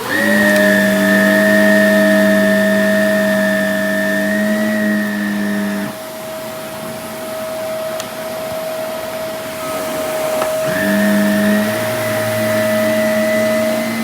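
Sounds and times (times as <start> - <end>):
vacuum cleaner whining: 0.0 - 14.0.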